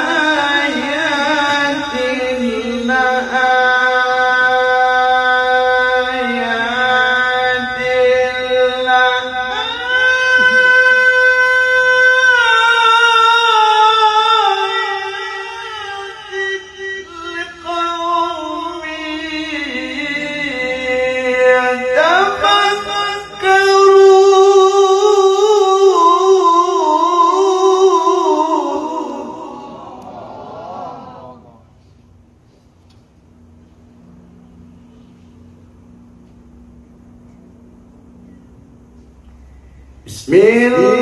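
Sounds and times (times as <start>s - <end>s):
person chanting recitation: 0.0s - 31.8s, 40.0s - 41.0s.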